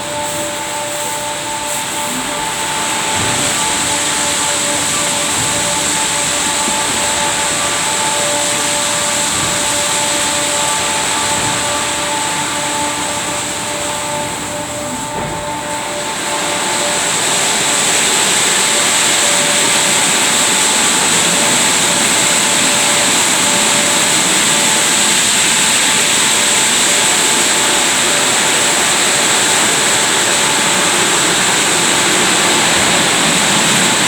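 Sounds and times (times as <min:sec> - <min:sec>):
car wash machinery hissing: 0:00.0 - 0:34.0
motor hum: 0:00.0 - 0:34.0.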